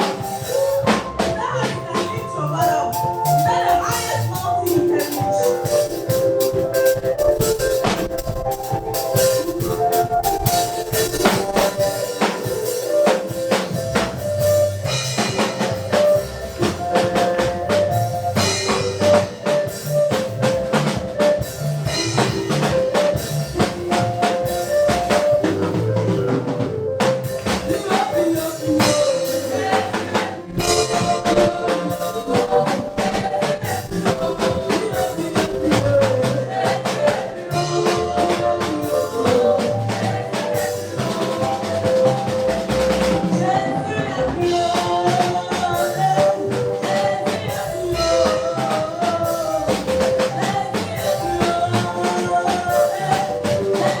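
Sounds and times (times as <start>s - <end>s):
drum kit beat: 0.0s - 54.0s
gospel band playing: 0.0s - 54.0s.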